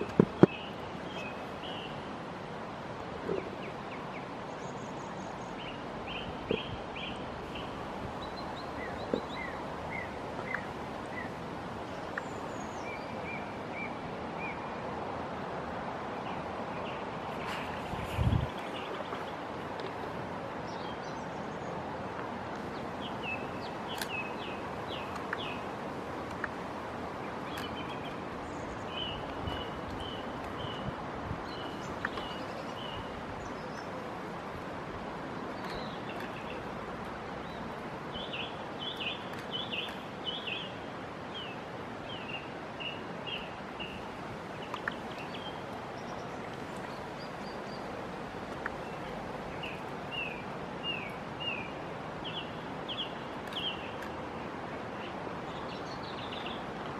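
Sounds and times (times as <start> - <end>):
outdoor background hiss: 0.0 - 56.9.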